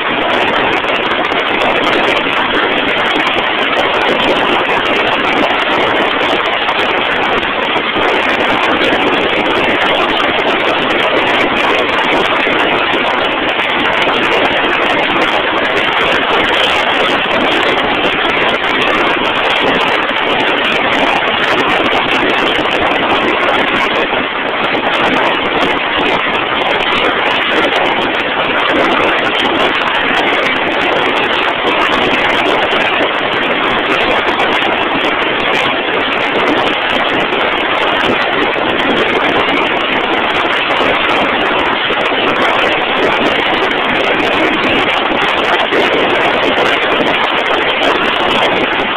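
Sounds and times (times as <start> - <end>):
drill rig machinery running: 0.0 - 48.9.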